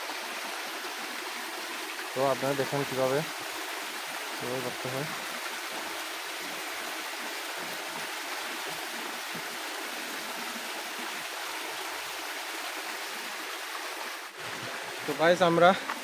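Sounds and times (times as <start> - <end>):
stream running over stones: 0.0 - 16.0.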